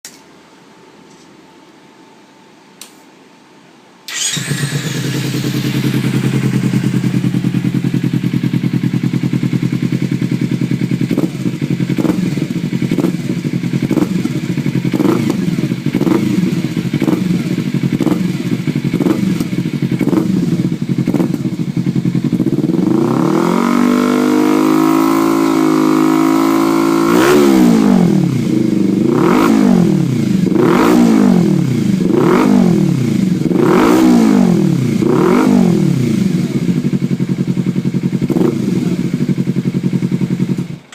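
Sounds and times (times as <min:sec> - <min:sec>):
motorcycle engine idling and revving: 0:04.1 - 0:40.9.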